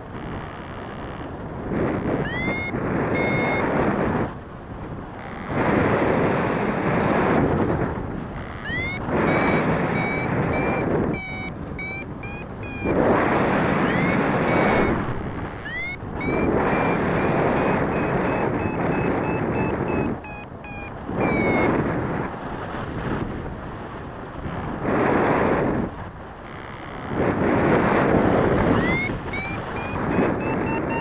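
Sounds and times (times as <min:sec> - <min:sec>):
variometer short beeps: 0:00.0 - 0:04.2, 0:05.1 - 0:22.1, 0:26.4 - 0:31.0
wind buffeting microphone: 0:00.0 - 0:31.0.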